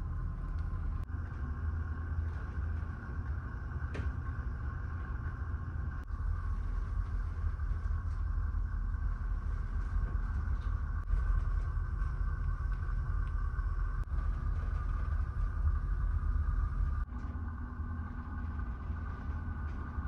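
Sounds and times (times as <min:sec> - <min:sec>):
low drone of ferry engines: 0:00.0 - 0:20.0
steady higher hum: 0:00.0 - 0:20.0.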